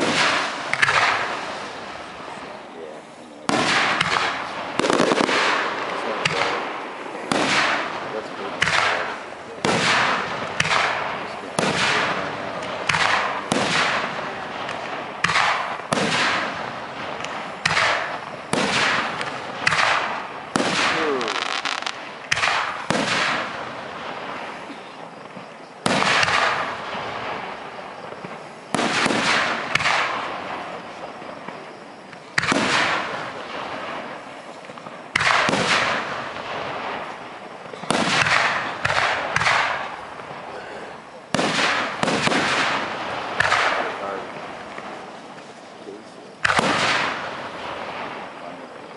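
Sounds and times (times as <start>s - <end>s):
fireworks bursting with bangs: 0.0s - 48.9s.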